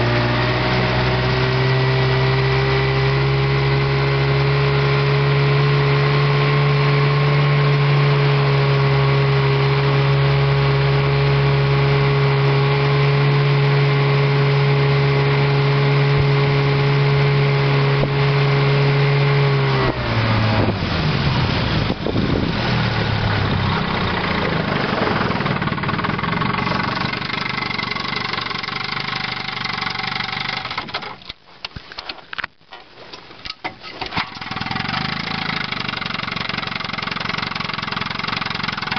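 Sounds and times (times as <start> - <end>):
outboard motor running: 0.0 - 31.3, 34.0 - 38.9.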